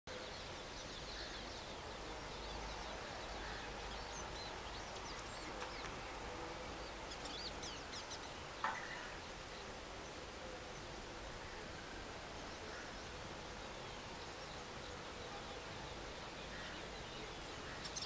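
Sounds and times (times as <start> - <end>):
outdoor background noise: 0.1 - 18.0
small birds chirping and trilling: 0.1 - 18.0.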